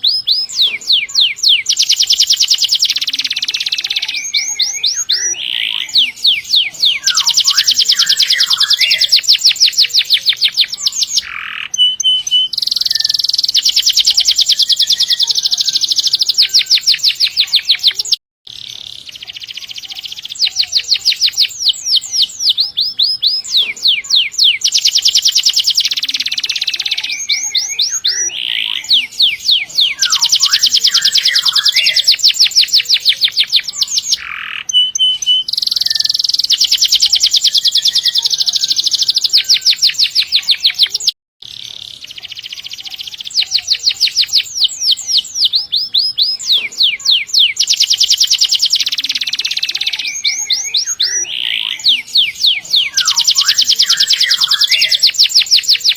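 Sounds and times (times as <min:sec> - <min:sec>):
canary singing in fast trills: 0:00.0 - 0:55.9.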